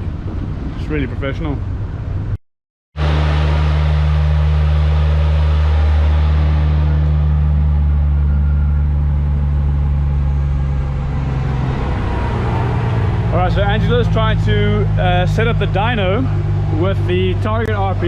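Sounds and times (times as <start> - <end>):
car engine droning steadily: 3.0 - 18.0.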